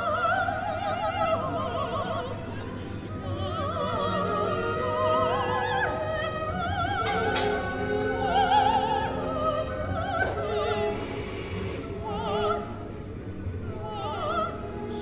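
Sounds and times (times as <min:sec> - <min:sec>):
operatic singing: 0:00.0 - 0:15.0.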